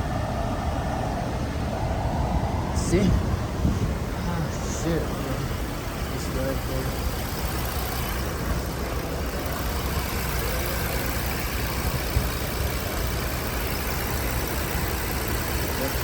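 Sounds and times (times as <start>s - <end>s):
car engine idling: 2.8s - 16.0s.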